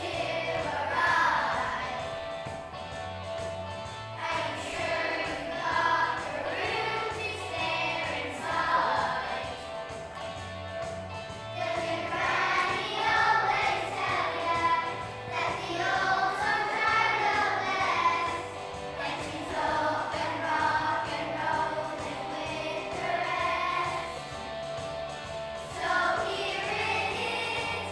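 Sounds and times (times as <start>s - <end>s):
children singing: 0.0s - 2.4s, 4.2s - 9.9s, 11.5s - 24.4s, 25.6s - 27.9s
backing music: 0.0s - 27.9s.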